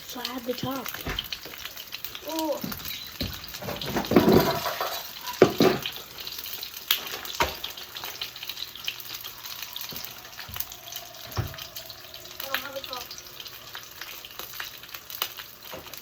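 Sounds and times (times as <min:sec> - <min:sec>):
dumplings sizzling in oil: 0:00.0 - 0:16.0.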